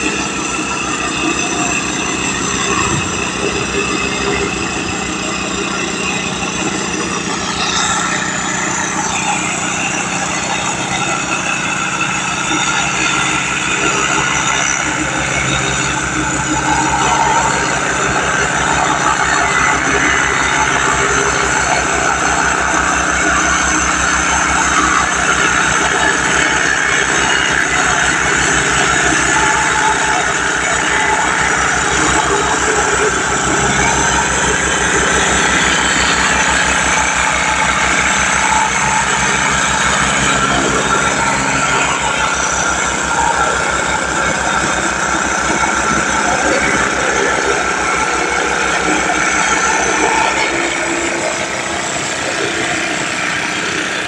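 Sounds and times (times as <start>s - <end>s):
loud noisy din: 0.0s - 54.0s
machine engine running: 0.0s - 54.0s.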